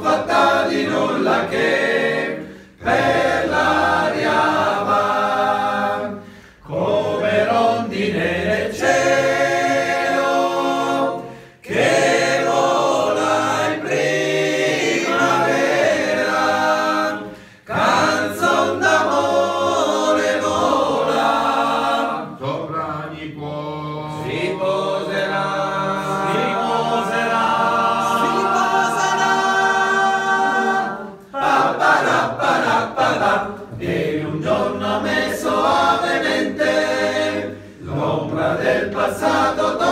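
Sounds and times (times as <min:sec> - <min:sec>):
men singing a cappella: 0:00.0 - 0:39.9.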